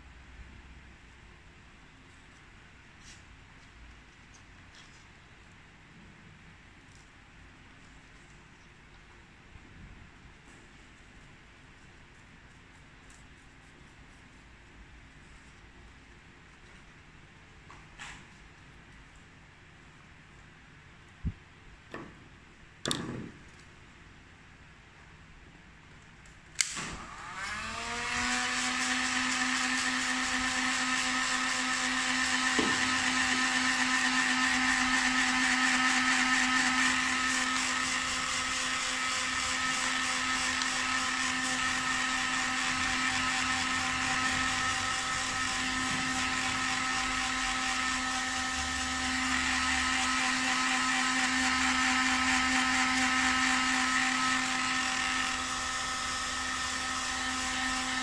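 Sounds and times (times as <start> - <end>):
heat gun fan whine and hiss: 0.0 - 58.0.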